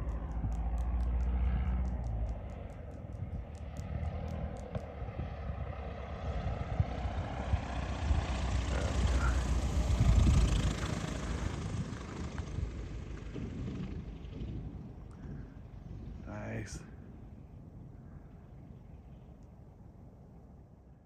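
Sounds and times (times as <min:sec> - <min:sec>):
light aircraft engine passing: 0:00.0 - 0:21.0.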